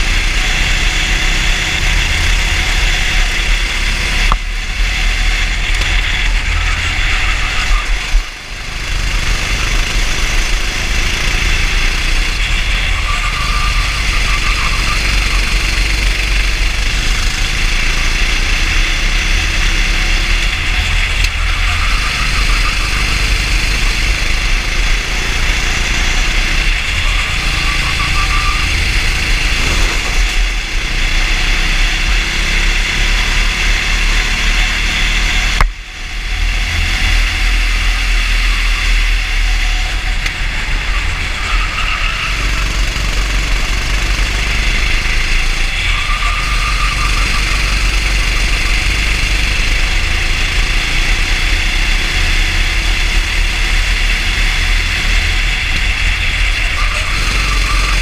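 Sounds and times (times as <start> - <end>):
kart engine droning: 0.0 - 58.0.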